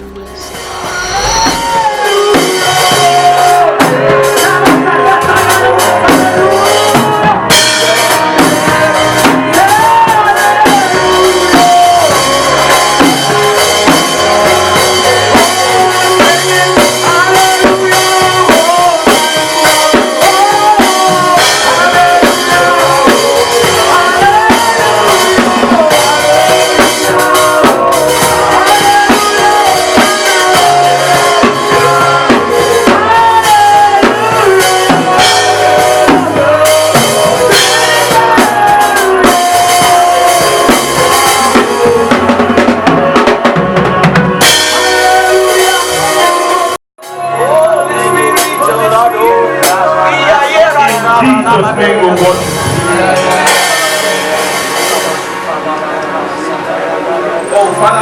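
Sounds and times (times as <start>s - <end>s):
drum kit: 0.0s - 56.1s
bass: 0.0s - 58.0s
person singing: 0.0s - 58.0s.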